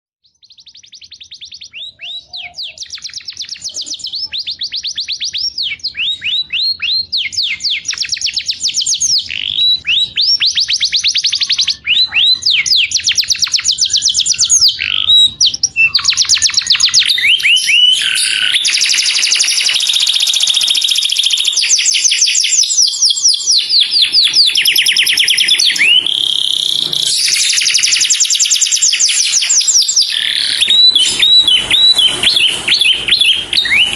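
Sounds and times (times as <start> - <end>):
canary singing: 0.2 - 33.9.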